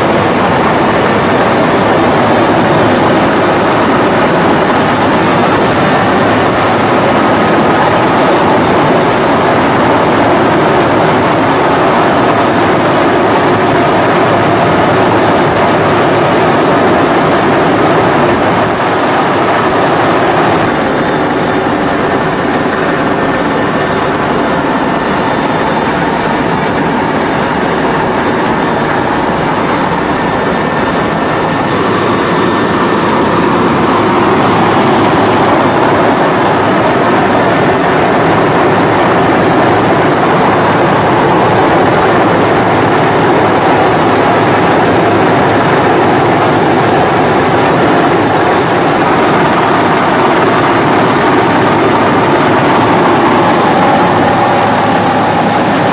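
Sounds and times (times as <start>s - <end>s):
helicopter rotor and turbine noise: 0.0s - 55.9s.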